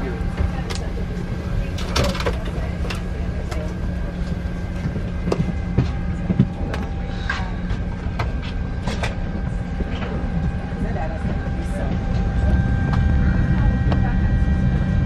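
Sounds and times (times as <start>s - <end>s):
aircraft cabin hum: 0.0s - 15.0s.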